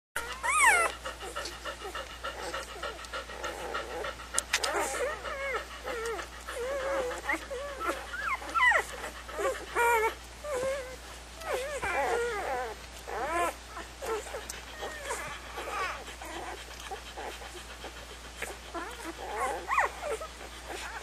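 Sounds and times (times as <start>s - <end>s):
puppies squeaking and whining: 0.2s - 21.0s.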